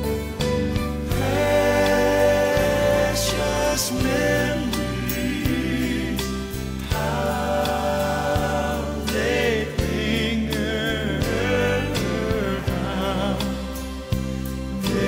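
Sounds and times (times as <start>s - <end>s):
person singing with vibrato: 1.1s - 14.1s.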